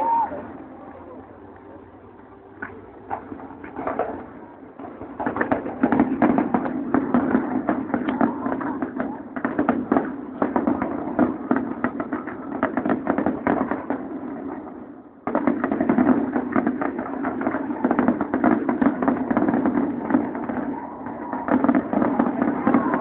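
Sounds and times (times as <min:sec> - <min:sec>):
continuous rumble: 0:00.0 - 0:23.0
fireworks crackling bangs: 0:02.6 - 0:23.0.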